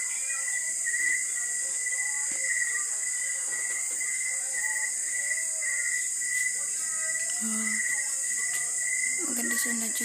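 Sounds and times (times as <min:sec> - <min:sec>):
faint distant music: 0:00.0 - 0:10.0
pulsing insect trill: 0:00.0 - 0:10.0
shrill insect chorus: 0:00.0 - 0:10.0.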